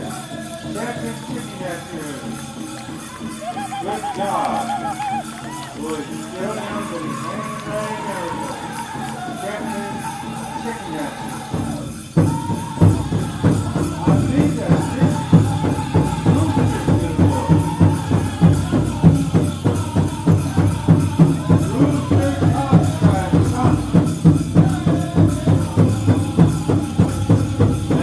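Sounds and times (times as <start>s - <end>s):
big drum beaten steadily: 0.0s - 28.0s
drum group singing: 0.0s - 28.0s.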